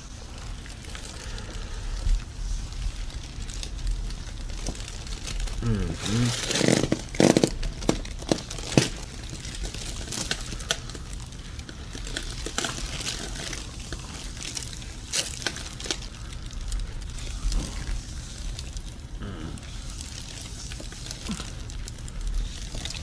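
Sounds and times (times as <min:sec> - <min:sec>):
rustling and crinkling: 0:00.0 - 0:23.0.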